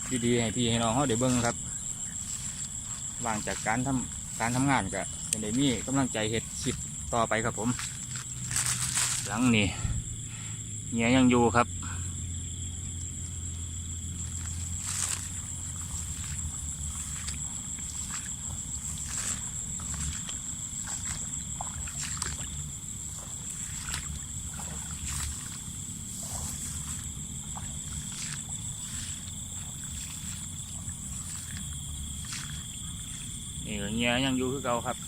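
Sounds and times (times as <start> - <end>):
water sloshing: 0.0 - 10.8, 12.1 - 35.0
night insects chorus: 0.0 - 35.0.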